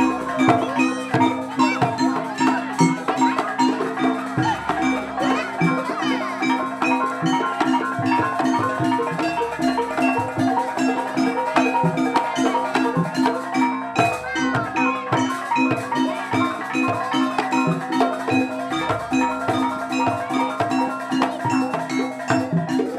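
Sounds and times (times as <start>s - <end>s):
metallophones and gongs ringing: 0.0s - 22.9s.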